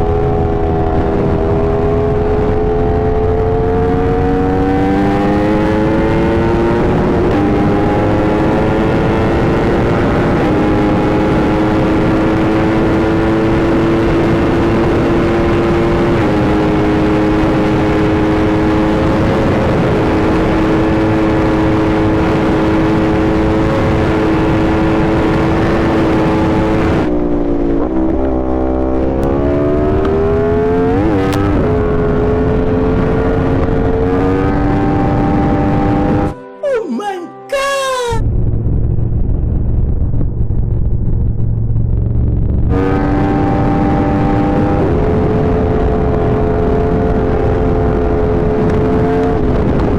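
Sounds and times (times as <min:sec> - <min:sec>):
motorcycle engine at high revs: 0:00.0 - 0:36.4, 0:42.6 - 0:49.9
wind rush: 0:00.0 - 0:36.4, 0:38.2 - 0:49.9.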